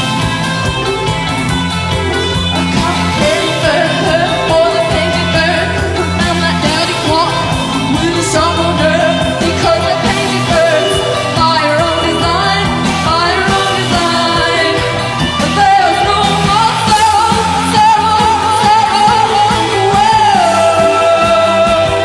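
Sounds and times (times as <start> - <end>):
rock band playing: 0.0 - 22.0
woman singing lead: 0.0 - 22.0.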